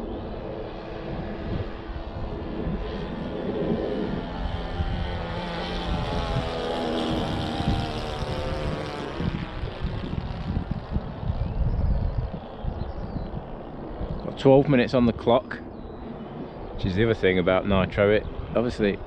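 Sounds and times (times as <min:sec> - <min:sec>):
model aircraft engine flying past: 0:00.0 - 0:19.0.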